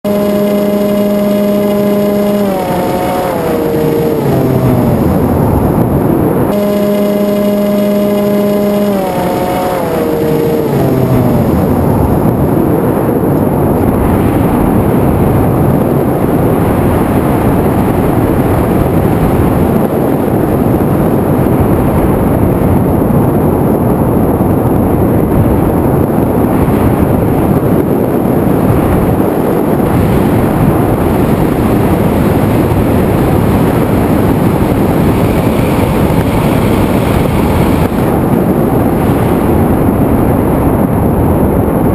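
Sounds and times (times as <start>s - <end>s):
drone motor and propeller noise: 0.0s - 41.9s
wind on microphone: 0.0s - 41.9s.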